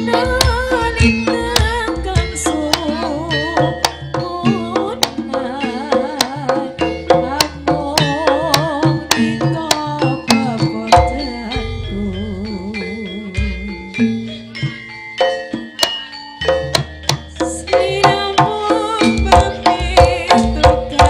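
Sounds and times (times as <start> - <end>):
hand drums beating: 0.0 - 21.0
metallophone tones: 0.0 - 21.0
wavering melodic line: 0.0 - 21.0.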